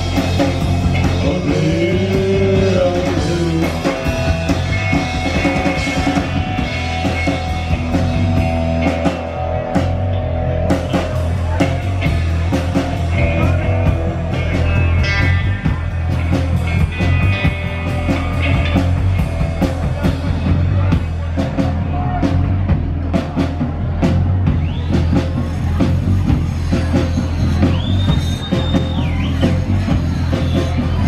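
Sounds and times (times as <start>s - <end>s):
bass guitar: 0.0s - 31.0s
drum kit beat: 0.0s - 31.0s
electric guitar: 0.0s - 31.0s.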